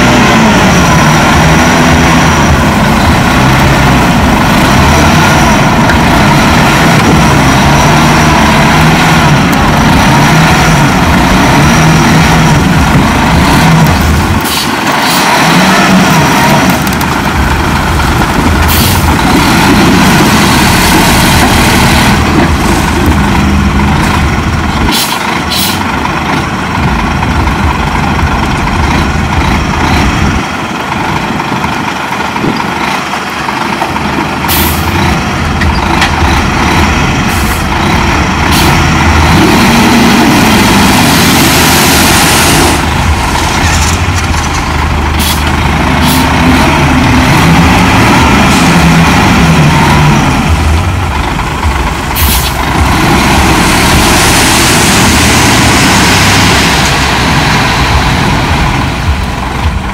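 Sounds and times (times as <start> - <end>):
diesel machinery engines under load: 0.0 - 59.9.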